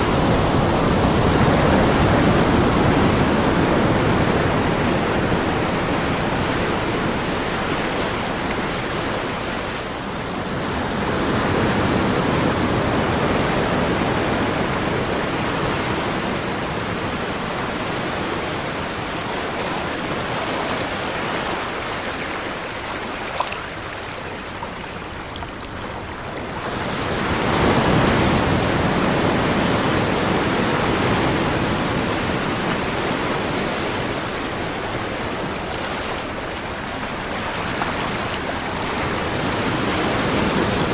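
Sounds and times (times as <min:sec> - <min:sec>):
waves breaking: 0:00.0 - 0:40.9.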